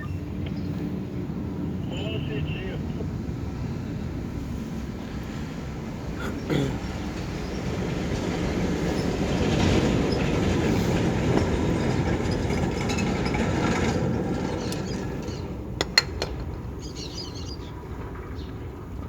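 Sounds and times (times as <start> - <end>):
heavy vehicle rumble passing: 0.0 - 19.0.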